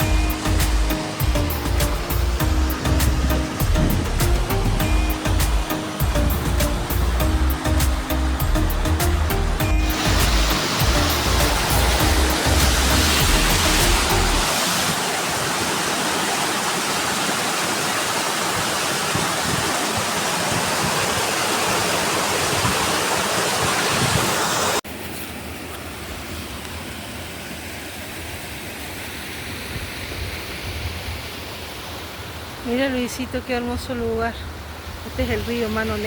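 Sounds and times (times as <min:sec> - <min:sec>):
river and waterfall rushing: 0:00.0 - 0:36.0.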